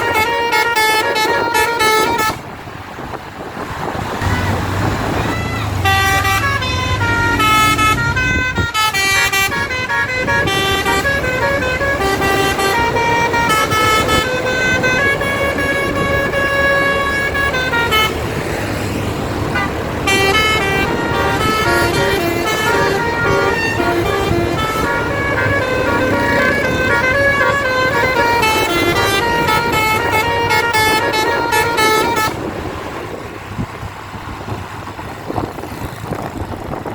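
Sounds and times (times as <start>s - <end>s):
musical bus horns tune: 0.0s - 2.6s, 4.2s - 33.2s
rushing background noise: 0.0s - 36.9s.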